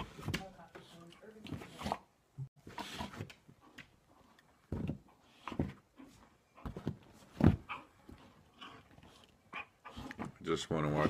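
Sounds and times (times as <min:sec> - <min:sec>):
dog noises: 0:00.9 - 0:11.0.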